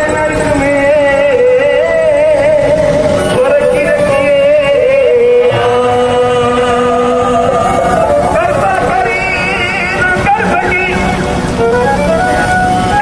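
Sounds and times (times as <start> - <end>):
person singing devotional music: 0.0 - 11.3.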